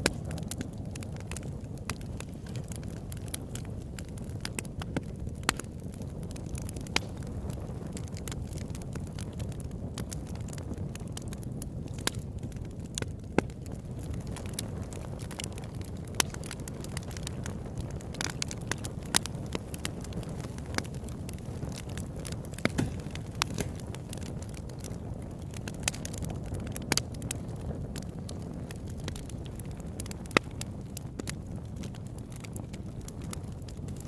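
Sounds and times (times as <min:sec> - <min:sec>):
burning wood crackling and popping: 0:00.0 - 0:34.0
low rumble of flames: 0:00.0 - 0:34.0.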